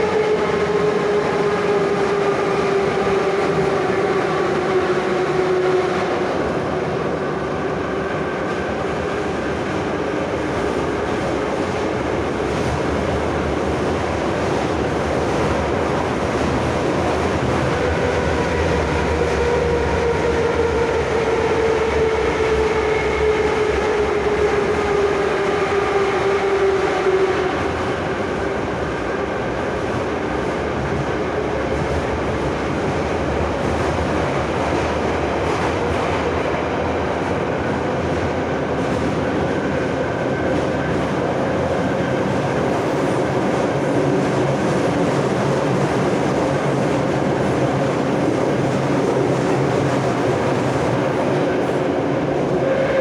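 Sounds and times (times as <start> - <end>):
train wheels rumbling on rail: 0.0 - 53.0
train whine: 0.0 - 53.0.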